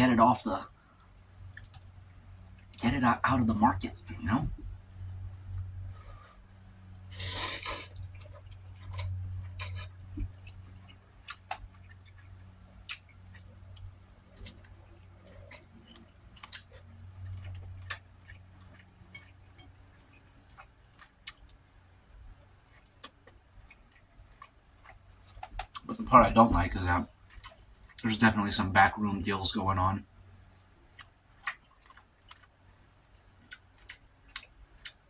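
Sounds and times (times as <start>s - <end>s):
steady low hum: 0.0s - 35.0s
man chewing food: 0.7s - 28.3s, 30.1s - 35.0s.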